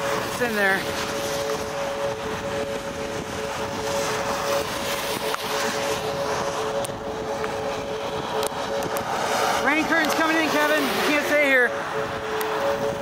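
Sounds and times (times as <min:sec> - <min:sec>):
steady rain: 0:00.0 - 0:12.9
car road noise on wet highway: 0:00.0 - 0:13.0.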